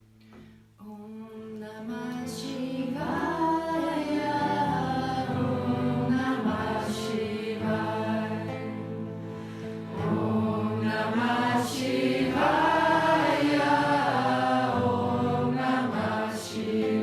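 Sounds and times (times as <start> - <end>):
group chanting in held notes: 2.6 - 17.0.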